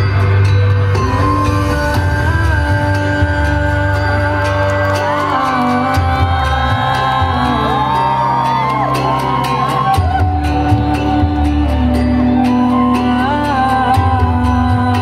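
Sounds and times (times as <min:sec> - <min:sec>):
live band amplified music: 0:00.0 - 0:15.0.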